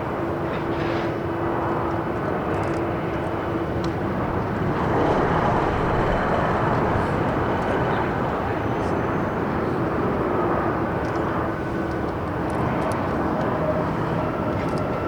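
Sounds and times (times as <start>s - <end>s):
jet airliner engine rumble: 0.0s - 15.0s.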